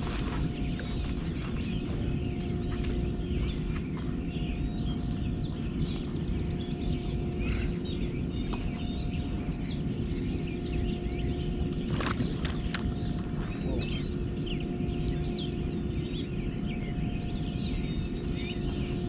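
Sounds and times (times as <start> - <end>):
faint steady hum: 0.0 - 19.0
small birds chirping: 0.0 - 19.0
steady low rumble: 0.0 - 19.0.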